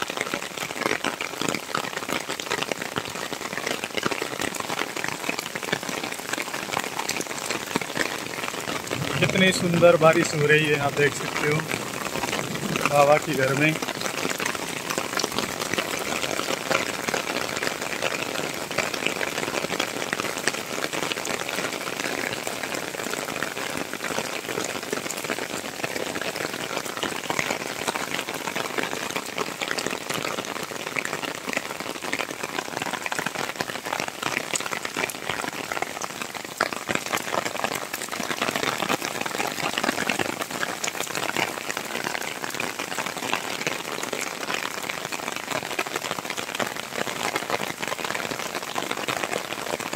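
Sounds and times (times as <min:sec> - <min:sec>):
heavy rain on pavement: 0:00.0 - 0:49.9.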